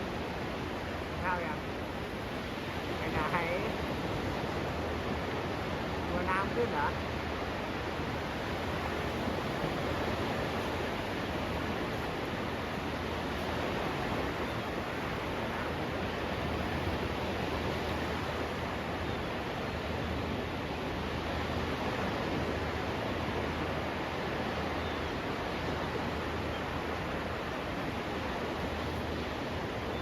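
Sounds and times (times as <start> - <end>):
surf: 0.0 - 30.0
wind: 0.0 - 30.0.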